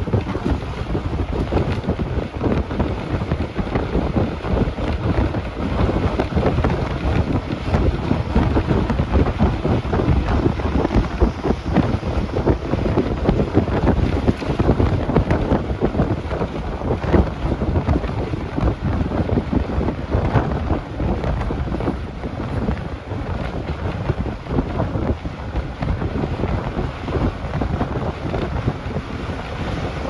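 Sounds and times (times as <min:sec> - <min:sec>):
moving bus rumble: 0:00.0 - 0:30.0
wind buffeting microphone: 0:00.0 - 0:30.0.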